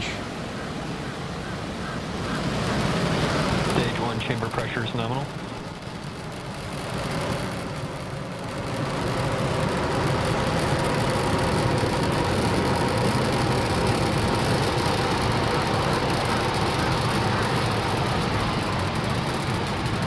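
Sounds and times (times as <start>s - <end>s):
rocket engines rumbling: 0.0s - 20.0s.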